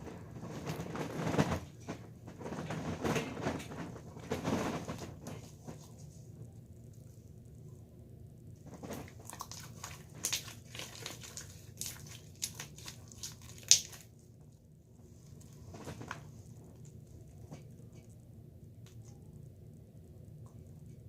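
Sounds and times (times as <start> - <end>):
crackling handling noise: 0.0 - 7.6, 8.5 - 19.6.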